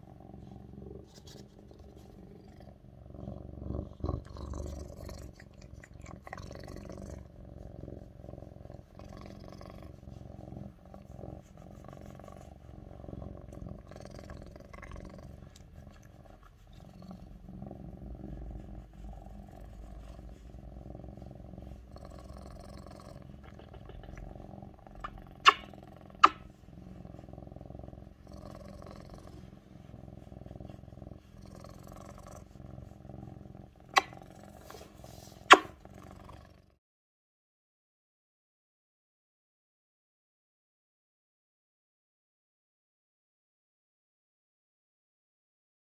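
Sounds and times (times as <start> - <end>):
cat purring loudly: 0.0 - 36.8.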